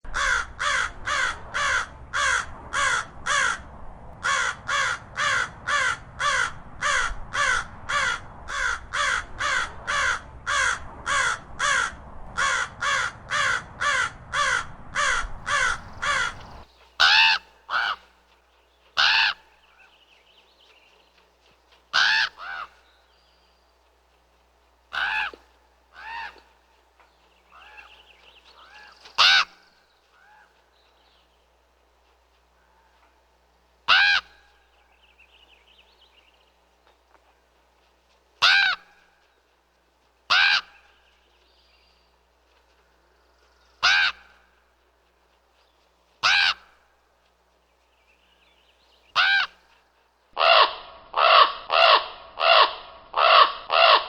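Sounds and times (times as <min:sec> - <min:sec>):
ravens calling: 0:00.1 - 0:24.0, 0:24.9 - 0:39.6, 0:40.3 - 0:47.1, 0:48.1 - 0:49.8, 0:50.4 - 0:54.0.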